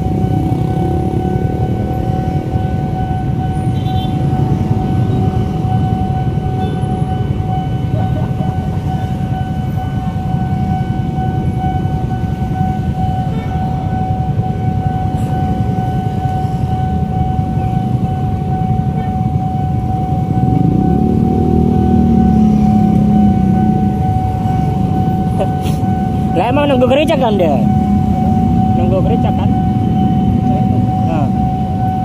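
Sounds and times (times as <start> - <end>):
level crossing warning alarm: 0.0 - 32.0
motorcycle and car engines rumbling: 0.0 - 32.0.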